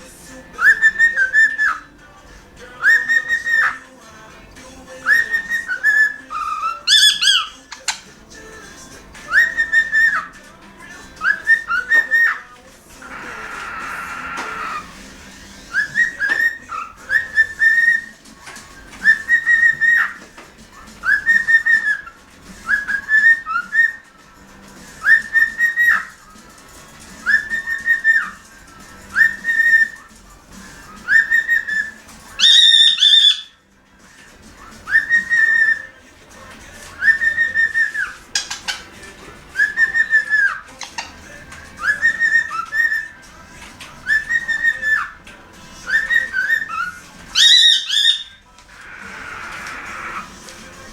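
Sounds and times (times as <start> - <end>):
cockatiel whistling: 0.0 - 33.7, 34.4 - 50.9.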